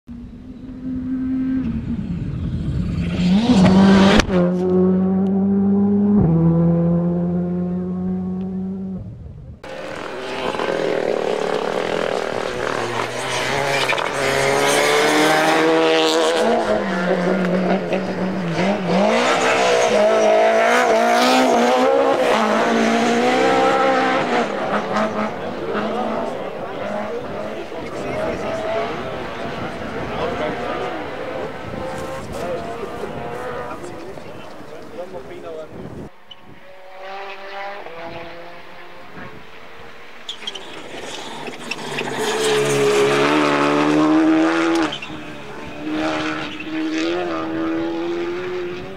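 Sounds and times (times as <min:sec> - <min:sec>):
rally car engine revving: 0:00.7 - 0:48.9.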